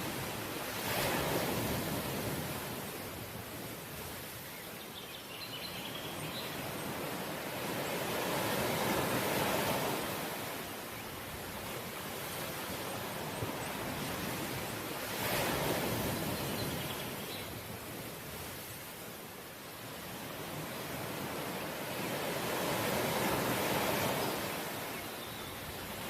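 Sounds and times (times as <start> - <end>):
sea waves breaking on shore: 0.0 - 4.6, 6.5 - 26.0.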